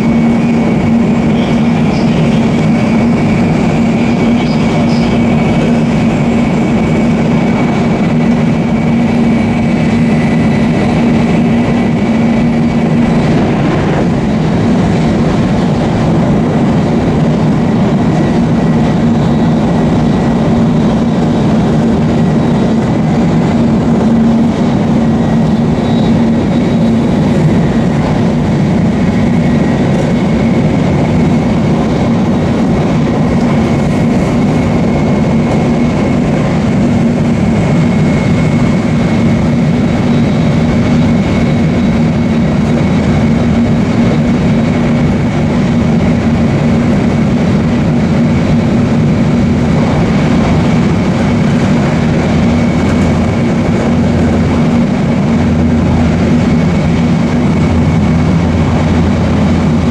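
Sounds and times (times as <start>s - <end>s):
deep train rumble: 0.0s - 59.9s
faint high whine: 0.0s - 59.9s.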